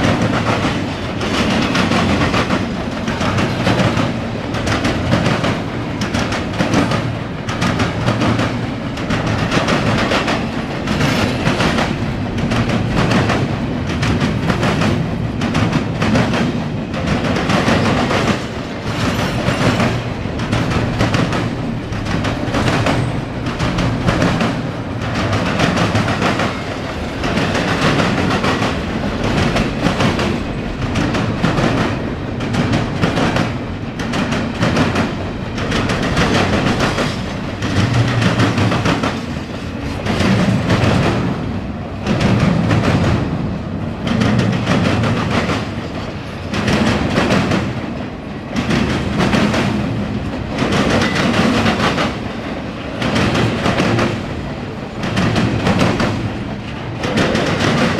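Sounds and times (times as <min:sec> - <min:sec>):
freight train wheels clacking: 0:00.0 - 0:57.9.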